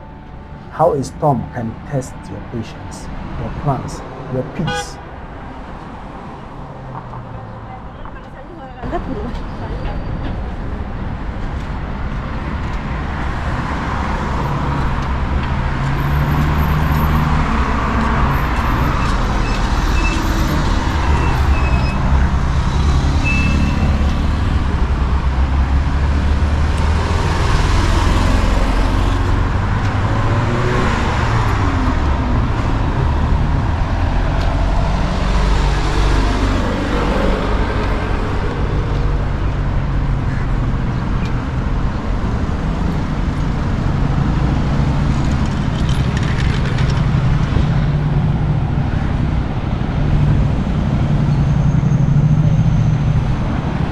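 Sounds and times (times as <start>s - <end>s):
road traffic engines and tyres: 0.0s - 53.9s.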